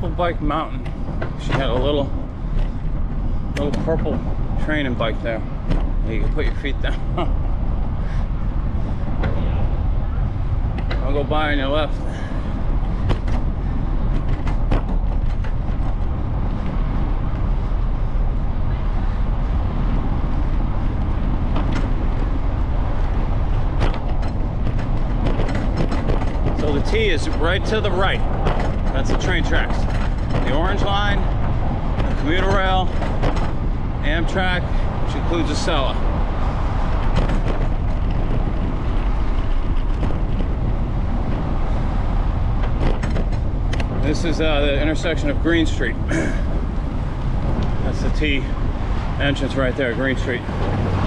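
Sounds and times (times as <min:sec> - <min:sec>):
light clicks and rattles: 0:00.0 - 0:09.4, 0:10.6 - 0:51.0
bicycle tyres rumbling on asphalt: 0:00.0 - 0:51.0
wind buffeting microphone: 0:00.0 - 0:51.0.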